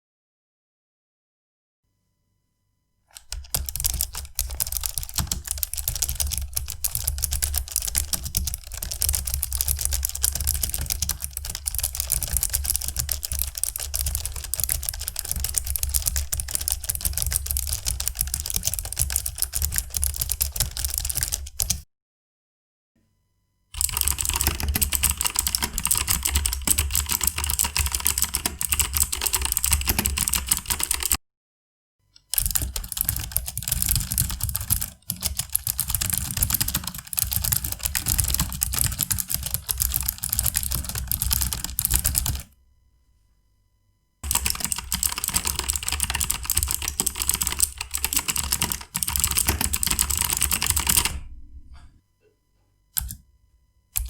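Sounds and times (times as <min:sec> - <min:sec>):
fast clicky keyboard typing: 0:03.1 - 0:21.8, 0:23.8 - 0:31.2, 0:32.3 - 0:42.5, 0:44.2 - 0:51.4, 0:53.0 - 0:53.2.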